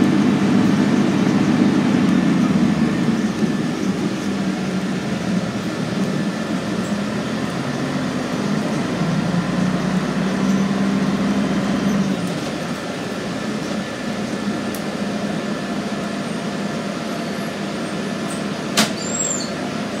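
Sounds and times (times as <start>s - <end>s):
bus diesel engine drone: 0.0s - 20.0s.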